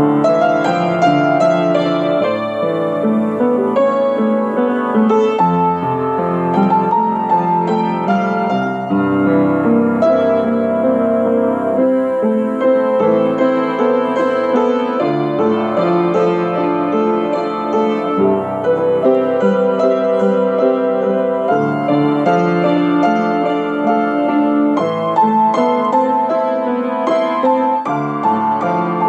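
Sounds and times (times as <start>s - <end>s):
upright piano playing: 0.0s - 29.0s.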